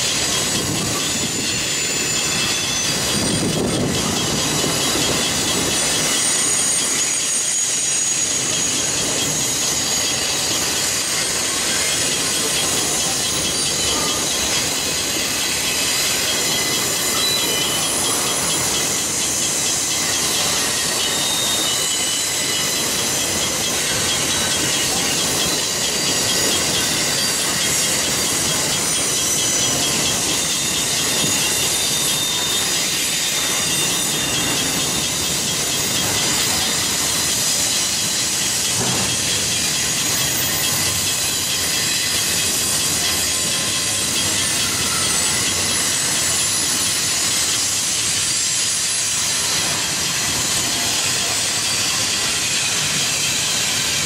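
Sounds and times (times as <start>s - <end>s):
freight train cars rolling past: 0.0s - 54.0s
steel wheels squealing on rail: 0.0s - 54.0s.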